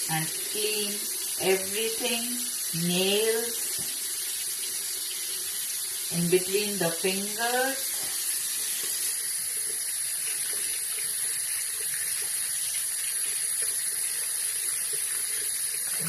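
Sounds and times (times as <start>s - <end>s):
water running from tap into sink: 0.0s - 16.0s.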